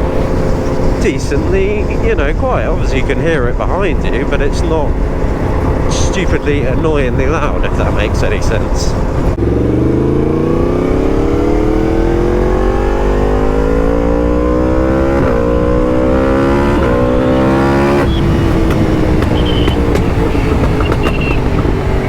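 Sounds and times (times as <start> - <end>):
motorcycle engine revving: 0.0 - 22.0
wind rush: 0.0 - 22.0.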